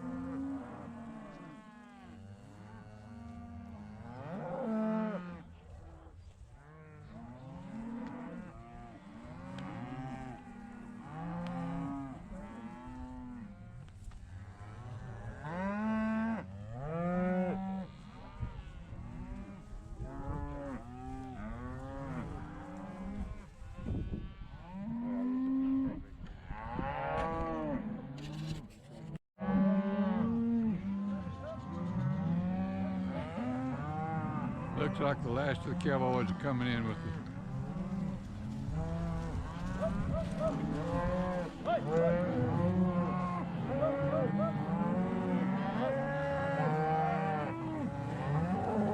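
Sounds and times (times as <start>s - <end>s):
cattle mooing and bawling: 0.0s - 5.5s, 6.7s - 13.7s, 14.4s - 28.1s, 29.4s - 48.9s.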